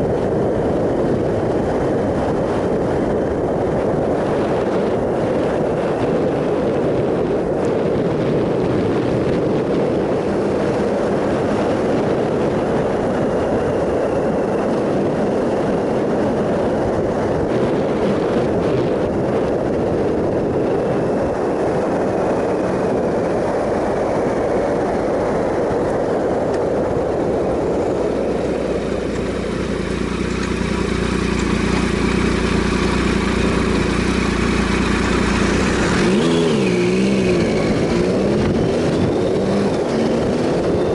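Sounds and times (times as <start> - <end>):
motorcycle engine running: 0.0 - 40.9
wind rushing on microphone: 0.0 - 40.9.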